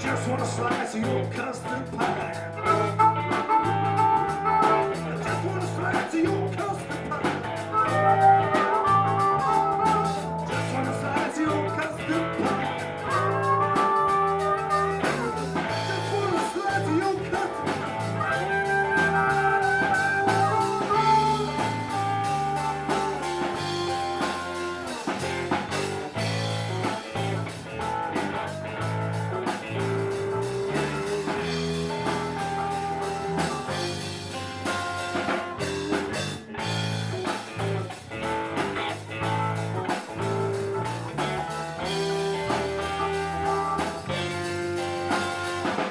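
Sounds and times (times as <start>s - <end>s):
blues band playing: 0.0s - 45.9s
drums: 0.0s - 45.9s
electric guitar: 0.0s - 45.9s.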